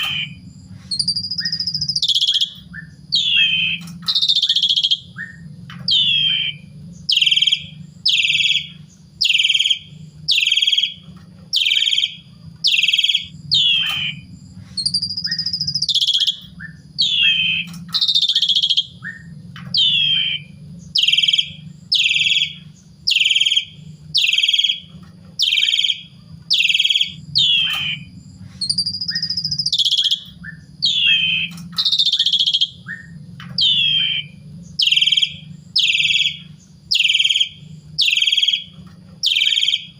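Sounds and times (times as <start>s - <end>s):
starling calling: 0.0s - 39.9s
steady low hum: 0.0s - 39.9s.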